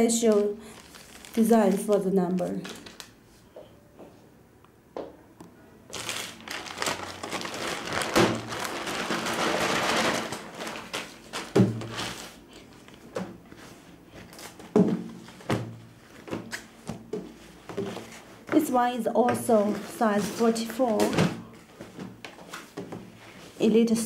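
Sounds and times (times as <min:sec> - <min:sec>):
plastic bag rustling and crinkling: 0:00.0 - 0:03.5, 0:05.9 - 0:24.0.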